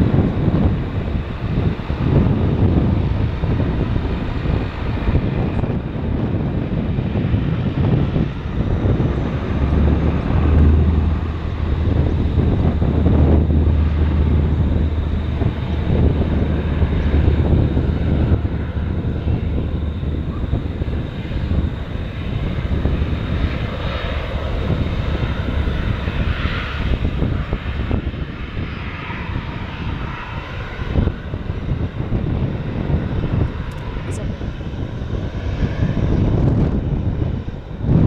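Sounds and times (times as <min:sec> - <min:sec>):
turboprop plane taking off: 0:00.0 - 0:38.0.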